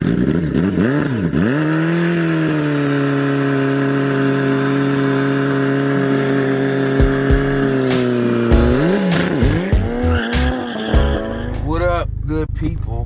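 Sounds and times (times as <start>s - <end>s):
engine revving: 0.0s - 12.3s.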